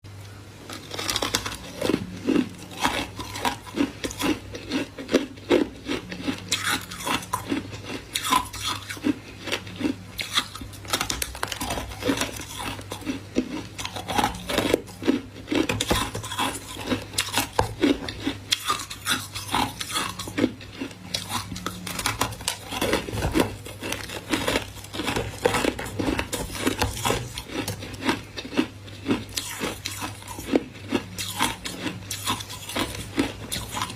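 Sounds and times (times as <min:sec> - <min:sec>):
crunching frost: 0:00.7 - 0:33.9.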